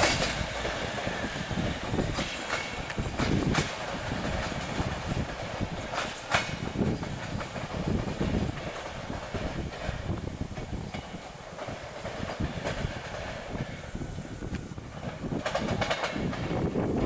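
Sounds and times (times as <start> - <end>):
train coaches rumbling: 0.0 - 17.0
wheels clacking on rails: 0.0 - 17.0.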